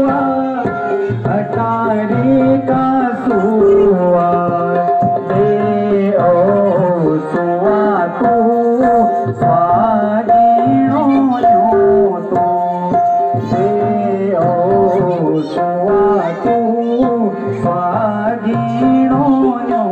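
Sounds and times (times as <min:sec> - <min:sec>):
harmonium notes: 0:00.0 - 0:19.9
person singing: 0:00.0 - 0:19.9
tabla strokes: 0:00.0 - 0:19.9.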